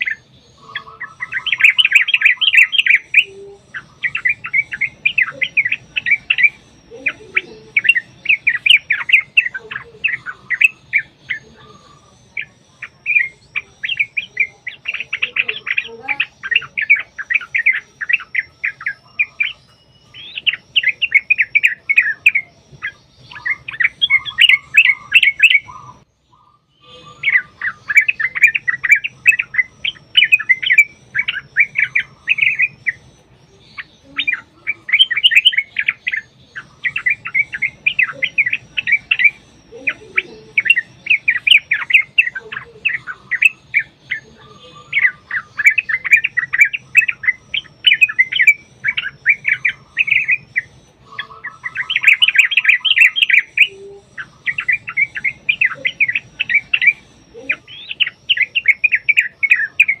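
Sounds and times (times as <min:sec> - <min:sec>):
birds bubbling chatter: 0:00.0 - 1:00.0.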